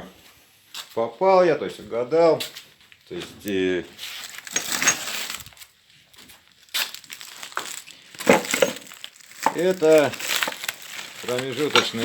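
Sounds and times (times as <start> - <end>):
rustling and crinkling: 1.7 - 12.0.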